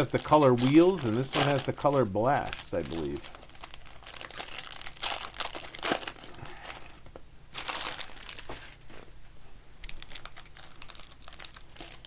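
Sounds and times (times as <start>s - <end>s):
plastic wrappers crinkling and tearing: 0.0s - 6.9s, 7.5s - 9.1s, 9.8s - 12.0s.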